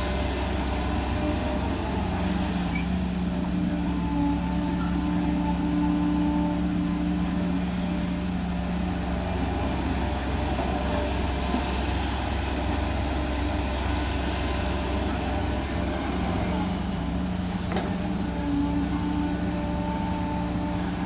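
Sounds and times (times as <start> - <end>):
excavator diesel engine droning: 0.0 - 21.0.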